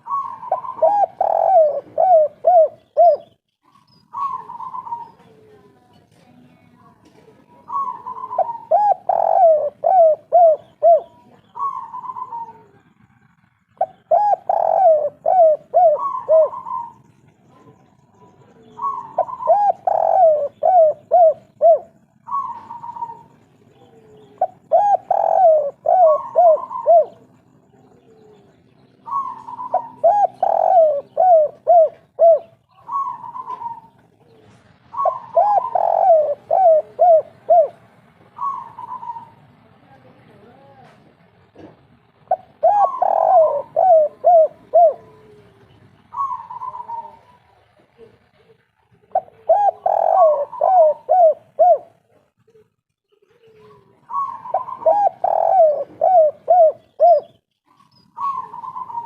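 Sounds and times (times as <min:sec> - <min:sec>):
dove cooing: 0:00.0 - 0:06.4, 0:07.0 - 0:40.7, 0:41.6 - 0:59.0.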